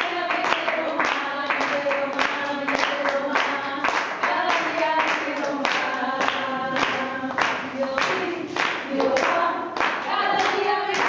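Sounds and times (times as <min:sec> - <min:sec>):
rhythmic hand claps: 0:00.0 - 0:11.0
voices singing: 0:00.0 - 0:11.0.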